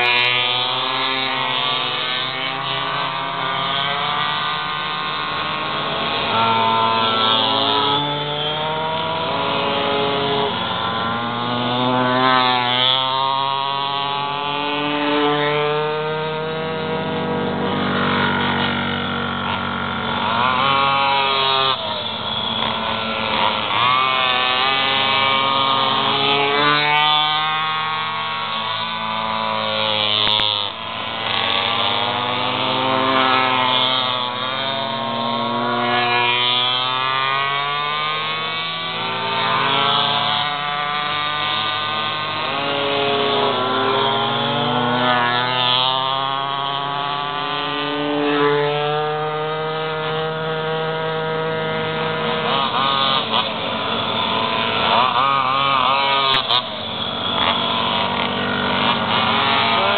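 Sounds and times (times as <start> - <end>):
two-stroke pocketbike engines racing: 0.0 - 59.9.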